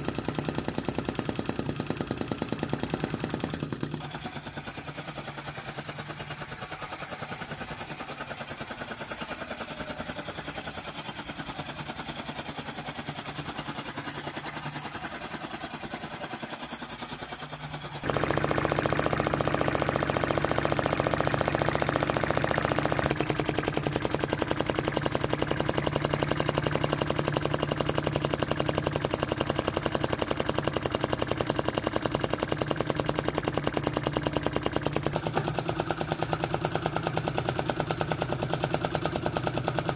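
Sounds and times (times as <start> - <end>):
small engine clattering: 0.0 - 39.9.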